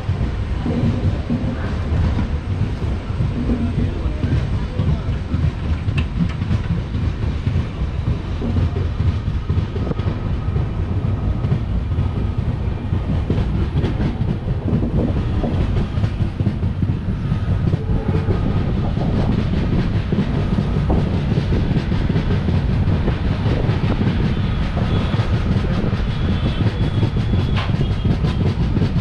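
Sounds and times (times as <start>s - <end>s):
clatter over rail joints: 0.0s - 29.0s
train wheels rumbling on rails: 0.0s - 29.0s.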